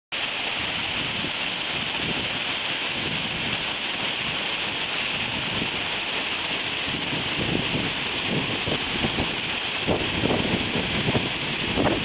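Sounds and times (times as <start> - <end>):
rushing falling water: 0.1 - 12.0
wind gusting on microphone: 0.4 - 12.0.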